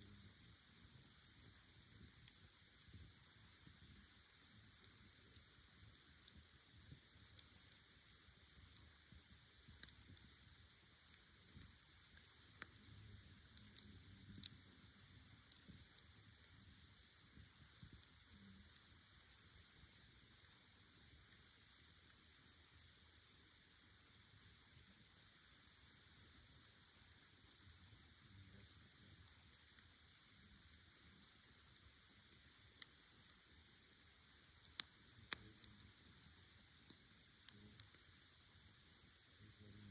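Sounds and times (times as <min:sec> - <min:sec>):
campfire crackles: 0:00.0 - 0:39.9
crickets chirring: 0:00.0 - 0:39.9.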